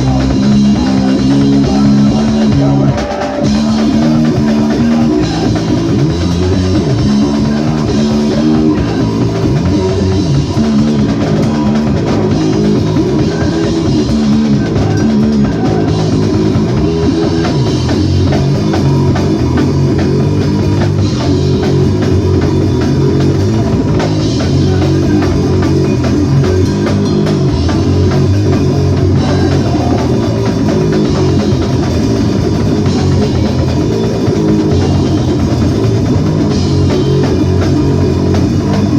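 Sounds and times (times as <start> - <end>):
drum kit: 0.0 - 38.9
guitar: 0.0 - 38.9
rock band playing live: 0.0 - 38.9.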